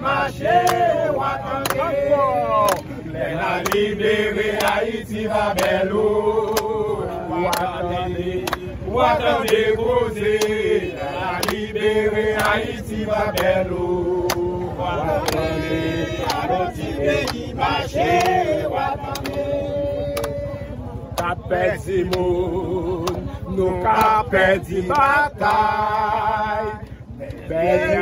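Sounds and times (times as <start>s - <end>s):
group of men singing: 0.0s - 28.0s.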